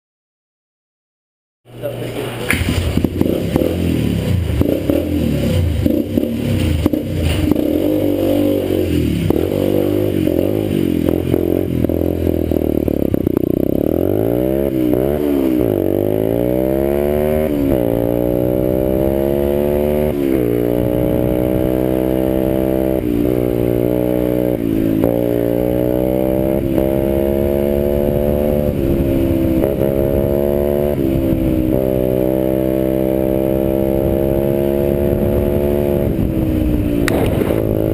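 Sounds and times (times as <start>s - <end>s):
dirt bike engine running: 1.7s - 37.9s.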